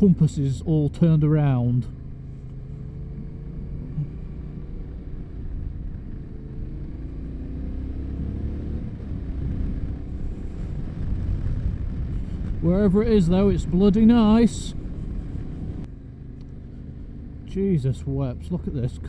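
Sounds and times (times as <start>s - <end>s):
motorcycle engine running: 0.8s - 19.0s.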